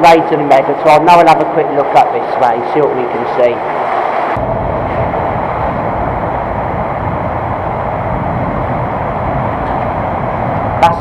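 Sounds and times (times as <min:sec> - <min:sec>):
train rumbling overhead: 0:00.0 - 0:11.0.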